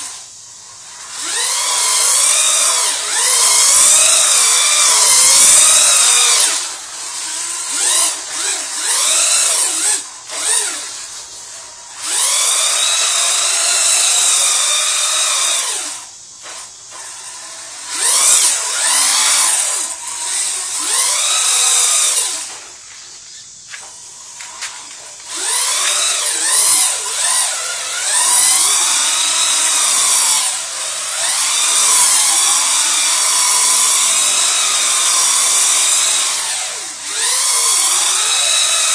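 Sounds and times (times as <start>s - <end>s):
wheels spinning on wet concrete: 0.0s - 15.0s, 15.6s - 35.6s
electric toy truck motor whining: 0.0s - 38.9s.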